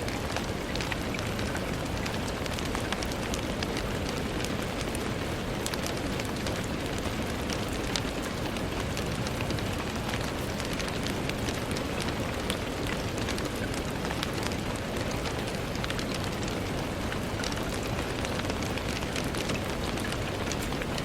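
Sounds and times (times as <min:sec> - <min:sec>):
rain on a window: 0:00.0 - 0:21.0.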